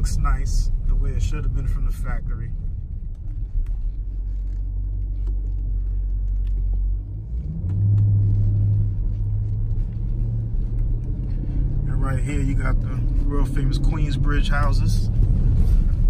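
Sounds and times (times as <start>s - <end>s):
car engine drone inside cabin: 0.0s - 16.0s.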